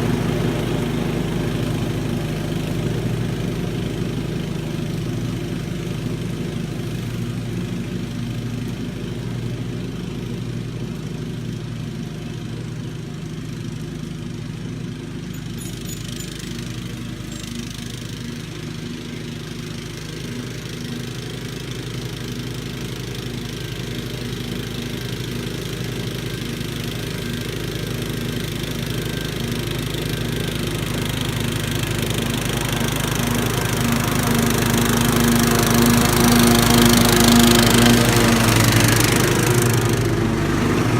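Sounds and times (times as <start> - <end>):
single-cylinder engine running: 0.0 - 40.9.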